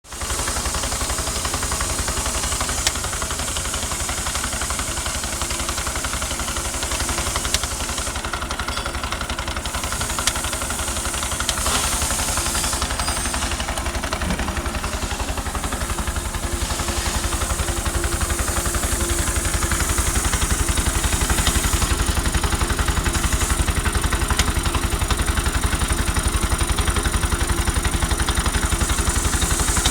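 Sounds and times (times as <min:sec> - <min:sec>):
engine pulsing idle: 0:00.1 - 0:29.9.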